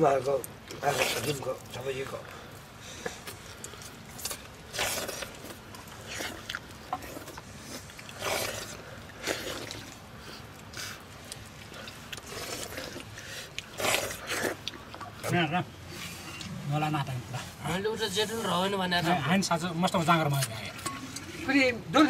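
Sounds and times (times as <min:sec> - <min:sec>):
people chewing: 0:00.0 - 0:21.5.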